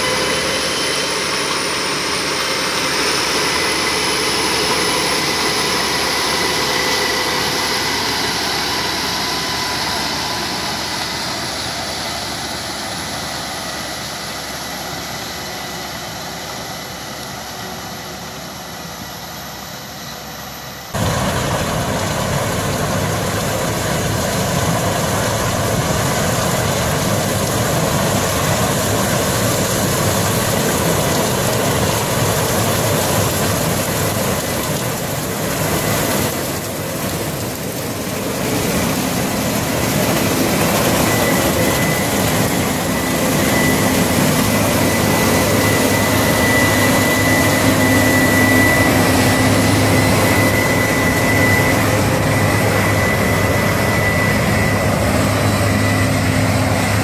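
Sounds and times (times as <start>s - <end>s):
combine harvester running: 0.0s - 57.0s
harvester high whine: 0.0s - 57.0s.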